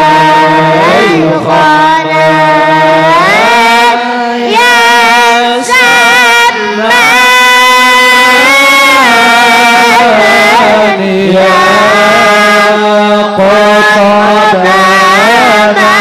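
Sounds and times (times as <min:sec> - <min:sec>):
person singing devotional poem: 0:00.0 - 0:16.0.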